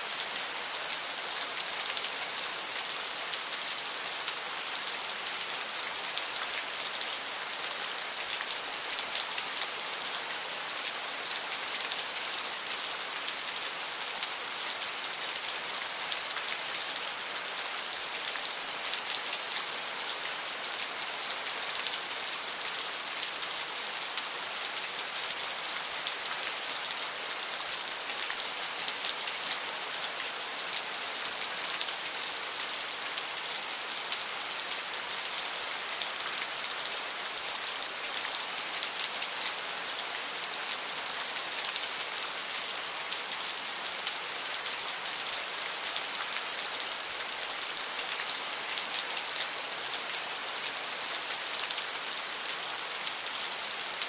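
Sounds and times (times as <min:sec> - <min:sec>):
heavy rain on hard surface: 0:00.0 - 0:54.0.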